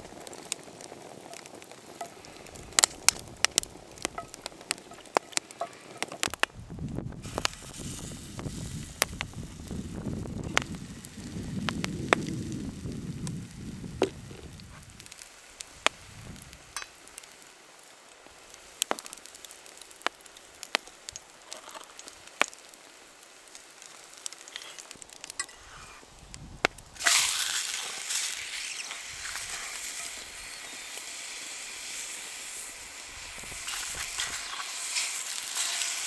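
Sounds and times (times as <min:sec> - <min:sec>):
batter sizzling in pan: 0:00.0 - 0:36.0
campfire crackling and popping: 0:00.0 - 0:36.0.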